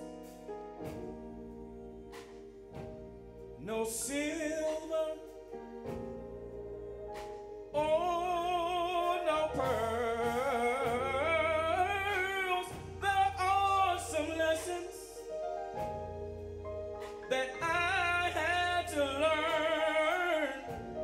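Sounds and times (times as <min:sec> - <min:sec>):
gospel choir singing: 0:00.0 - 0:21.0
instrumental accompaniment: 0:00.0 - 0:21.0.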